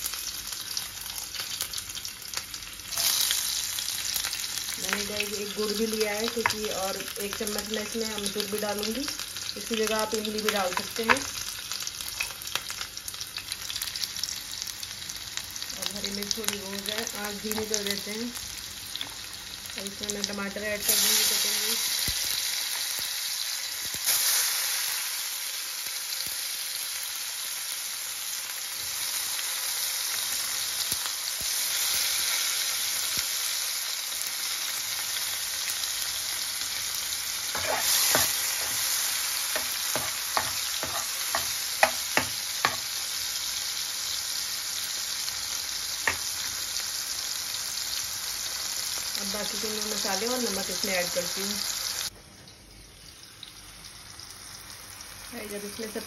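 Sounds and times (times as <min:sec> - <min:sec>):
tomatoes sizzling in hot oil: 0:00.0 - 0:56.0.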